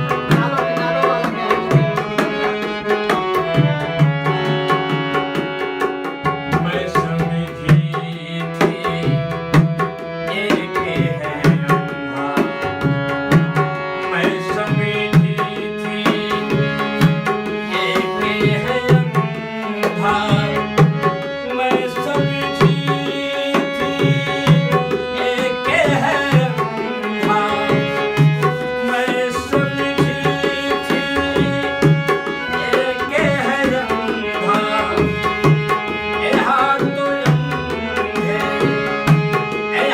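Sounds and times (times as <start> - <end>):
sustained instrumental melody: 0.0 - 39.9
tabla rhythm: 0.0 - 39.9.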